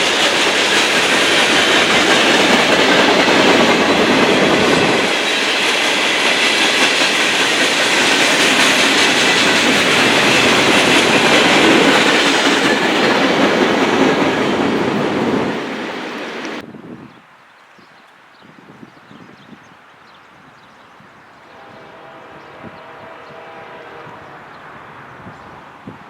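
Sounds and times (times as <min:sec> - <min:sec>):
train passing: 0:00.0 - 0:16.6, 0:21.4 - 0:26.0.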